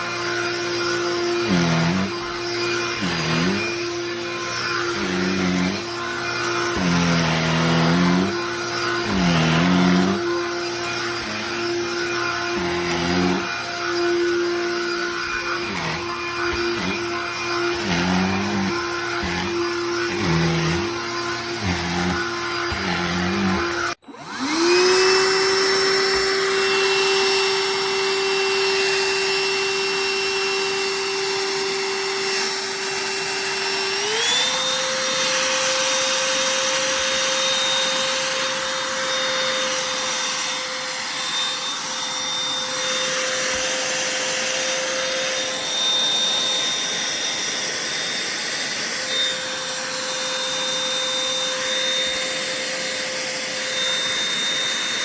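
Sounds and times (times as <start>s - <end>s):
handheld vacuum cleaner motor whine: 0.0s - 55.0s.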